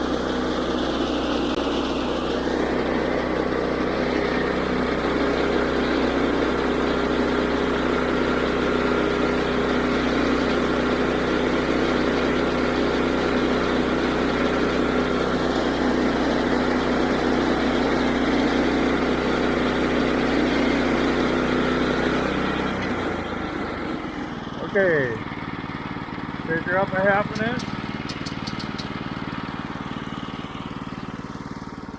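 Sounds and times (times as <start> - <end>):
band saw blade cutting log: 0.0 - 25.2, 26.6 - 29.2
gas engine running under load: 0.0 - 31.9.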